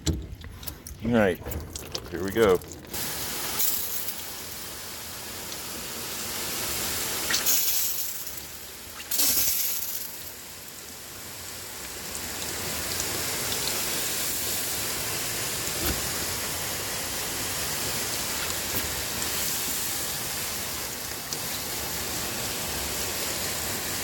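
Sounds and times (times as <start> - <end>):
water spray hissing on metal: 1.8 - 24.0.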